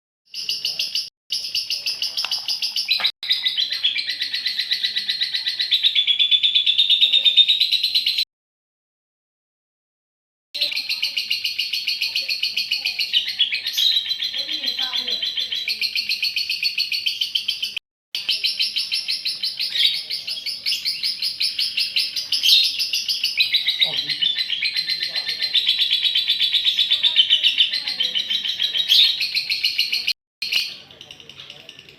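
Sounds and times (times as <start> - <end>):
lovebird shrill chirping chatter: 0.3 - 8.2, 10.6 - 31.9.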